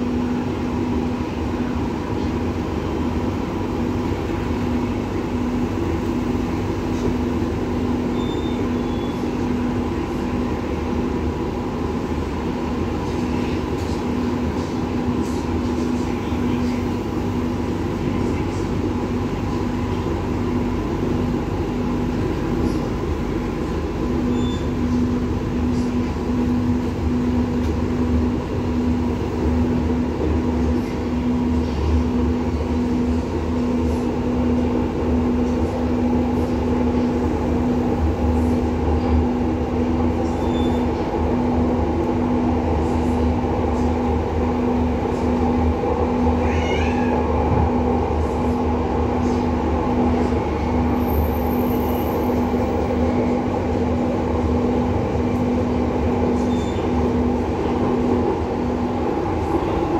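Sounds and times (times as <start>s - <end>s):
light rail car rumbling: 0.0s - 59.9s.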